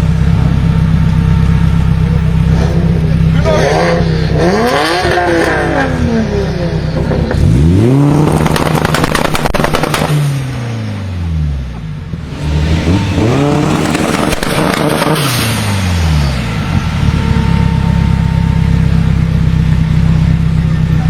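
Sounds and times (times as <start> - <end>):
car engine idling: 0.0 - 10.1, 11.1 - 21.0
car engine revving: 0.0 - 21.0.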